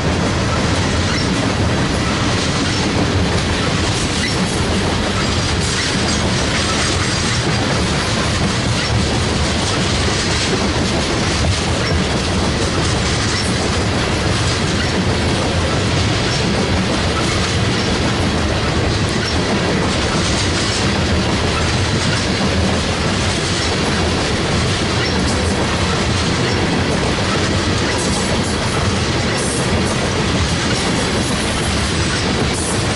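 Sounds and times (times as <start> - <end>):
train wheels clattering over rails: 0.0 - 32.9.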